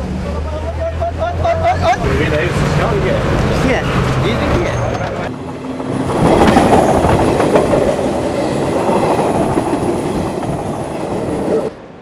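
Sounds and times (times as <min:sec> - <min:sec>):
train wheels rumbling on rails: 0:00.1 - 0:11.9.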